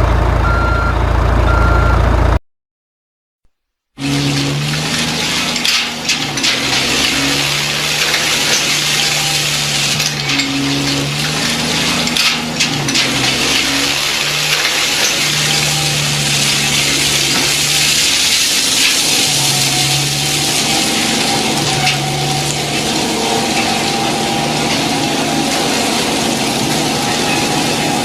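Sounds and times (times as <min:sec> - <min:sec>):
model truck electric motor: 0:04.0 - 0:28.0.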